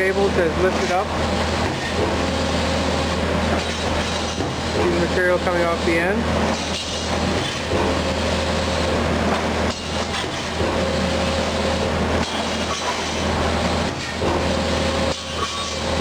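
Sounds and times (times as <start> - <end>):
machine hum and rumble: 0.0 - 16.0
thin machine whine: 0.0 - 16.0.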